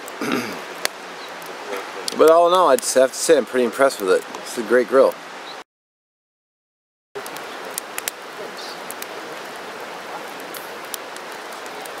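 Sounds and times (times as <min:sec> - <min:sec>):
wood fire crackling: 0:00.0 - 0:05.6, 0:07.2 - 0:12.0.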